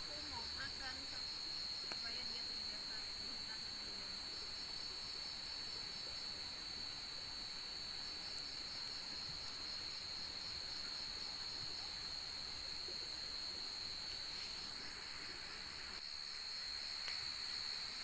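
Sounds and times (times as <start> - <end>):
crickets and insects trilling: 0.0 - 18.0
higher insect call: 0.0 - 18.0.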